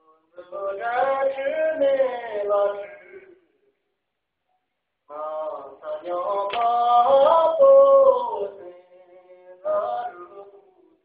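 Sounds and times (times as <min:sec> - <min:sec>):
man singing unaccompanied: 0:00.0 - 0:03.5, 0:05.0 - 0:11.0.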